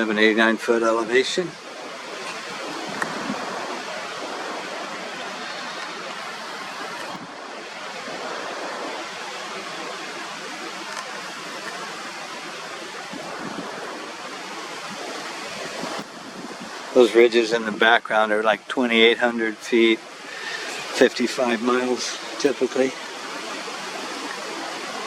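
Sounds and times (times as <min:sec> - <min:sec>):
wind blowing: 0:00.0 - 0:25.0.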